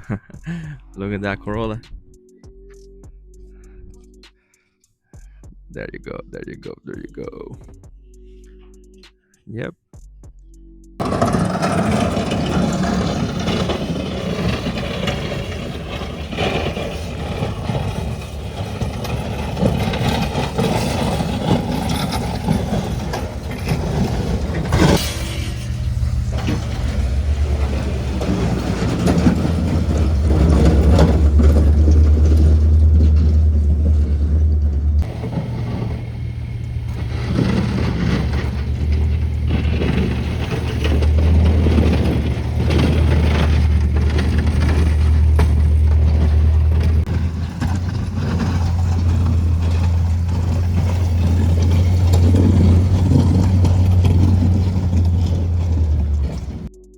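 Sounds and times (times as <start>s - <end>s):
car engine running: 11.0s - 56.8s.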